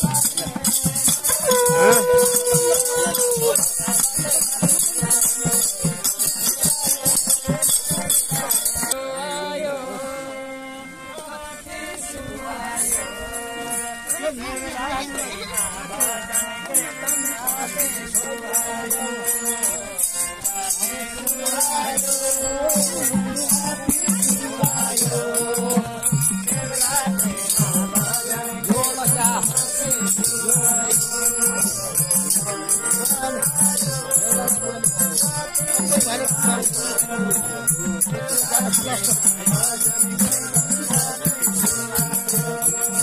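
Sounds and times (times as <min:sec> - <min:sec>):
rattling jingling percussion: 0:00.0 - 0:09.0, 0:12.8 - 0:43.0
voices singing together: 0:00.0 - 0:43.0.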